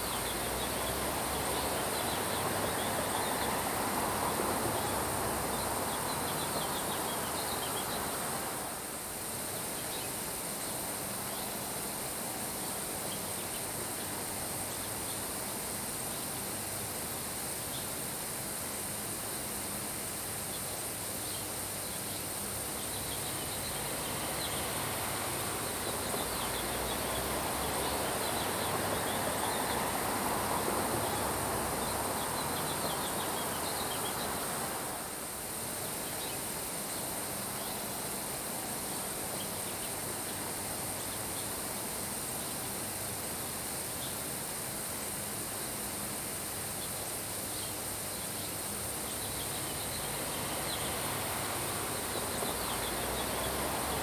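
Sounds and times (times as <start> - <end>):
rain falling on grass: 0.0 - 15.4, 16.0 - 54.0
wind: 0.0 - 54.0.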